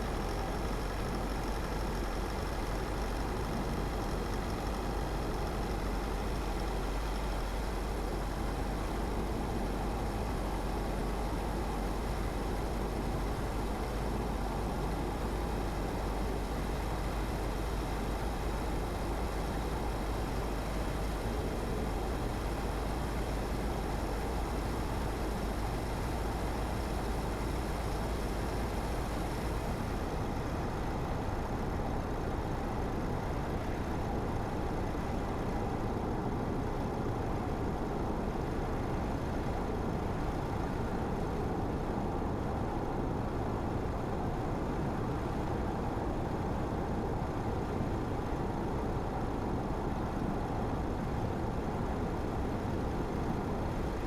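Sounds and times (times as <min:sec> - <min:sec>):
tyre road noise: 0:00.0 - 0:54.0.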